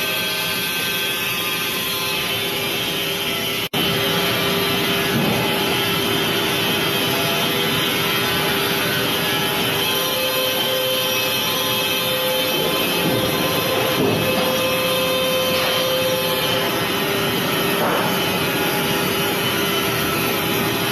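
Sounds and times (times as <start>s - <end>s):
sawmill machinery whirring: 0.0s - 20.9s.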